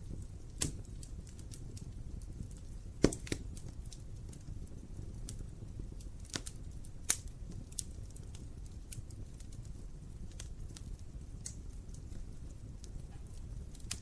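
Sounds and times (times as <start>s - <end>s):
fire rumbling: 0.0s - 14.0s
logs crackling and popping: 0.0s - 14.0s.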